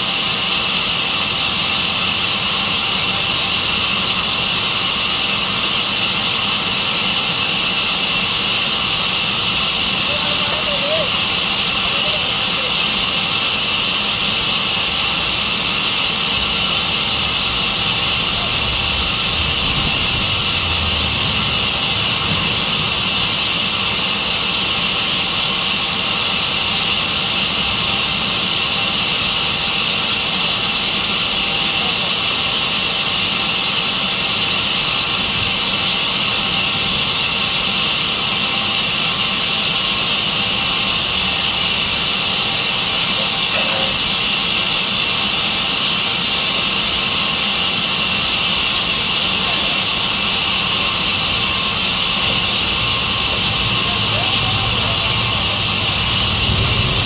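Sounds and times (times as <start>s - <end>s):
band saw running: 0.0s - 57.0s.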